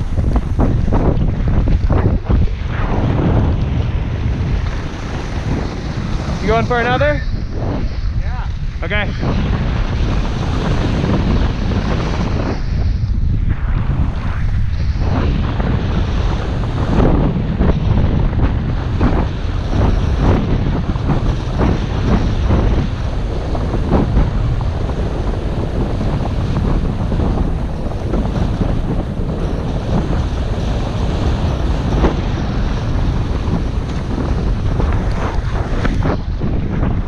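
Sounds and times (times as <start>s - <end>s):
skis scraping on snow: 0.0s - 12.8s, 18.5s - 37.0s
wind buffeting microphone: 0.0s - 37.0s.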